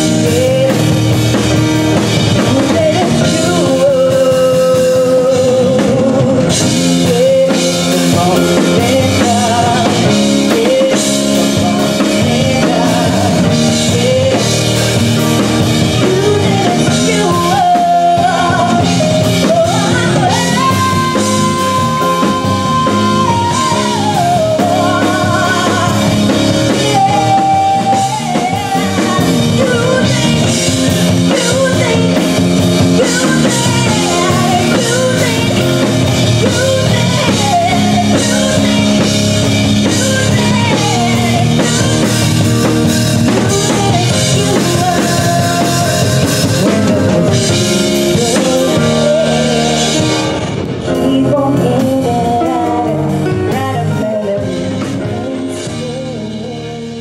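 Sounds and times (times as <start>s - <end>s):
drum kit playing: 0.0s - 57.0s
live band playing: 0.0s - 57.0s
woman singing into a microphone: 0.0s - 57.0s.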